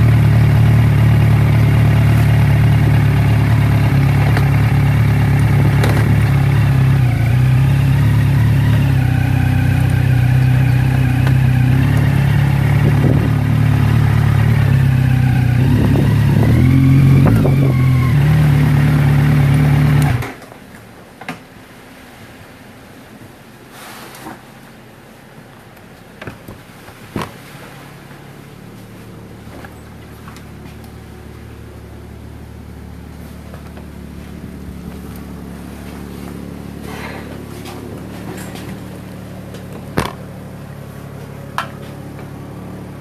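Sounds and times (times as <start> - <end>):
engine running: 0.0 - 23.6, 24.6 - 43.0.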